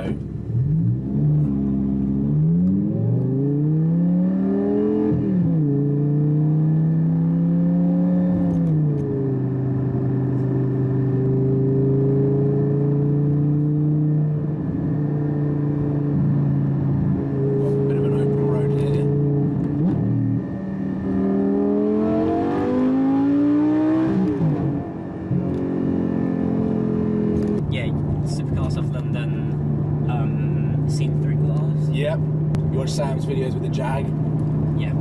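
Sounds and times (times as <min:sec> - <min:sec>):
car engine revving through upshifts: 0:00.0 - 0:35.0.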